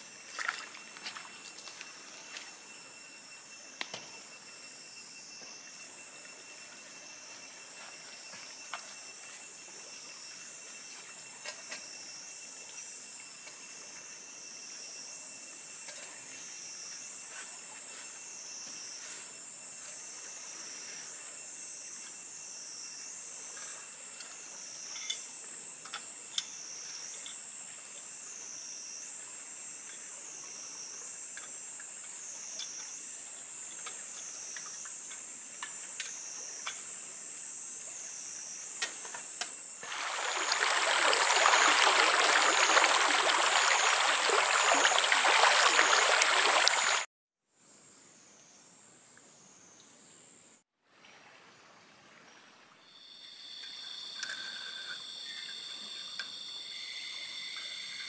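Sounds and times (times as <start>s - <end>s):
wavering insect drone: 0.0s - 47.1s, 52.8s - 58.0s.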